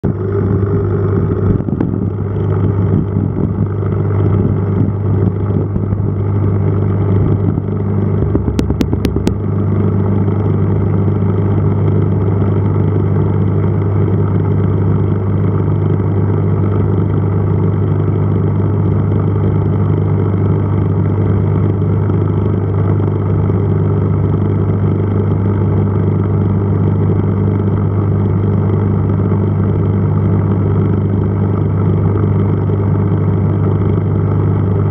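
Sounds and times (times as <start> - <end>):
aquarium pump humming: 0.0 - 34.9.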